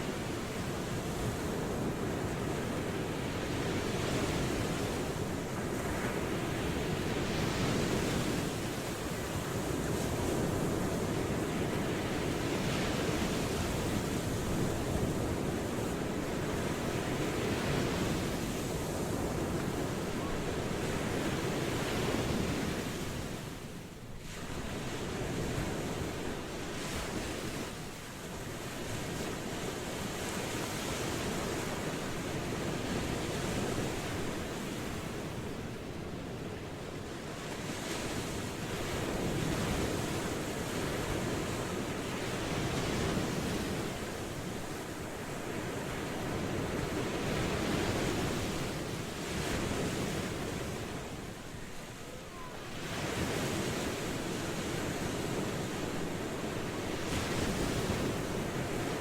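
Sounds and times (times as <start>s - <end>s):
ocean waves washing onto shore: 0.0s - 59.0s.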